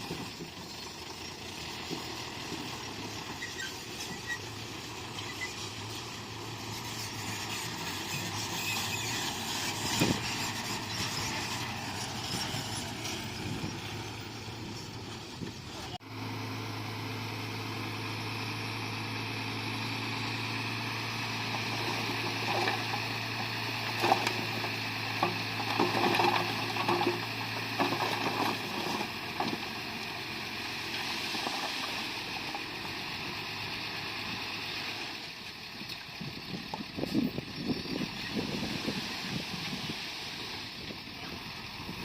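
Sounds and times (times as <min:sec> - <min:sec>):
bulldozer engine humming: 0:00.0 - 0:42.0.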